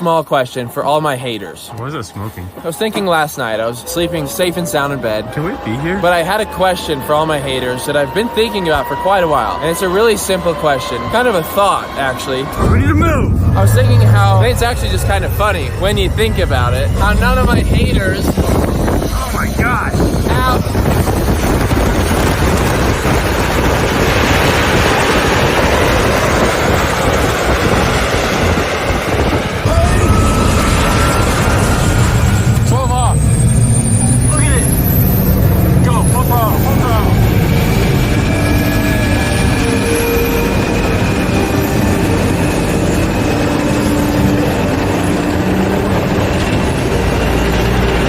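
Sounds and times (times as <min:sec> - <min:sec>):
jet engine running: 0:02.5 - 0:48.0
high-pitched whine: 0:03.8 - 0:48.0.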